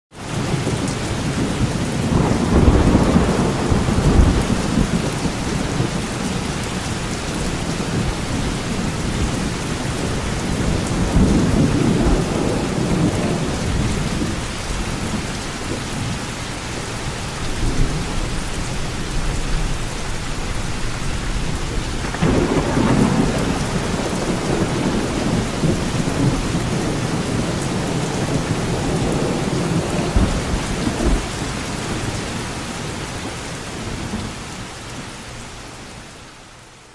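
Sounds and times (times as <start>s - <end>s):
heavy rain falling: 0.1s - 36.9s
thunder rumbling: 0.5s - 34.4s.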